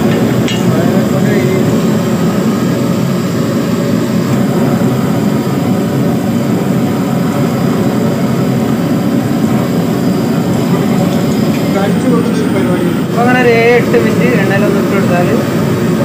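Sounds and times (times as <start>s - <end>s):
exhaust fan rushing: 0.0s - 16.0s.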